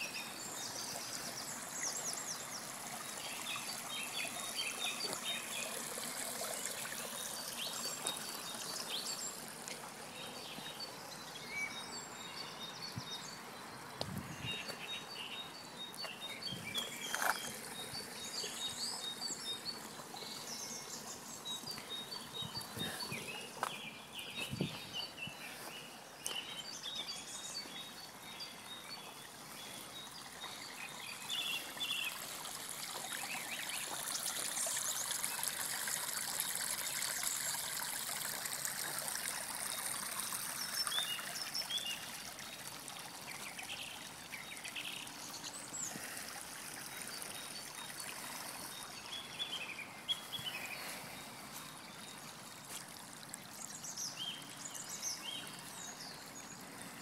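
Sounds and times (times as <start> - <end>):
water trickling over stones: 0.0 - 57.0.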